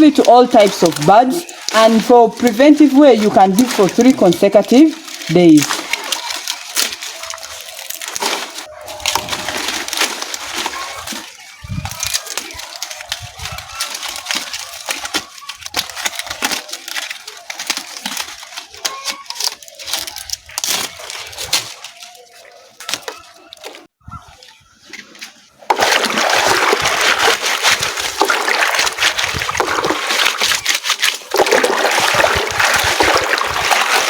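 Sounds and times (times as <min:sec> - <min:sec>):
dry leaves crackling and snapping: 0:00.0 - 0:23.9, 0:25.7 - 0:34.0.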